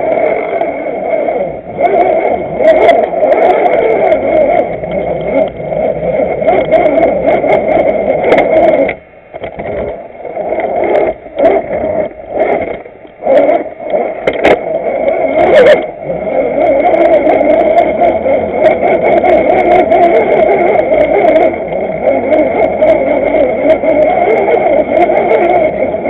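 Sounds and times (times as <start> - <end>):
toy car motor whining: 0.0 - 9.0, 9.8 - 26.0.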